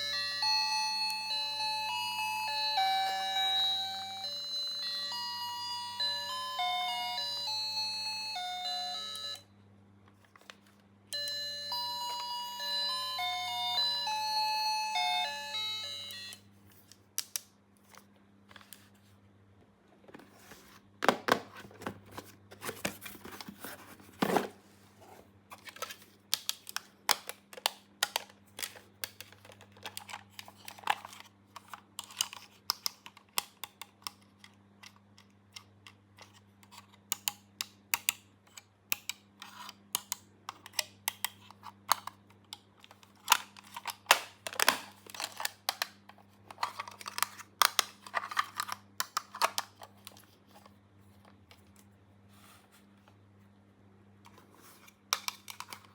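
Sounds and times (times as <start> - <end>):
faint electrical hum: 0.0 - 55.9.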